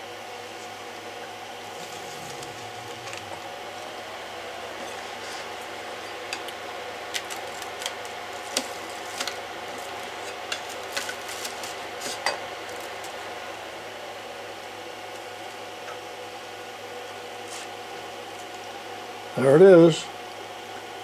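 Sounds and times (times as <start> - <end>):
printer fans humming: 0.0 - 21.0.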